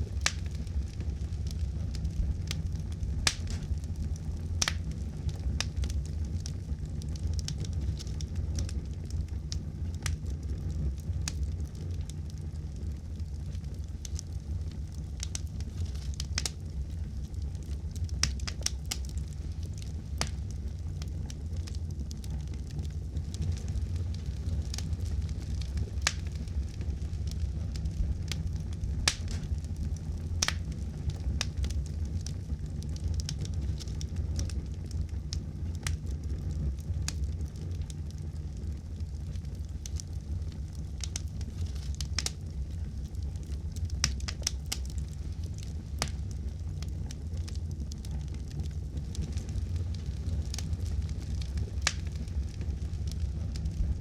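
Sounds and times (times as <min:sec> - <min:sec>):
burning wood crackling and popping: 0:00.0 - 0:54.0
campfire flames rumbling: 0:00.0 - 0:54.0.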